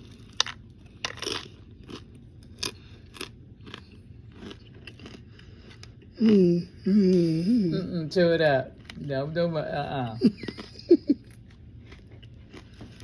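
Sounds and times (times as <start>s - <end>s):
person chewing crunchy food: 0.0s - 7.4s, 8.4s - 13.0s.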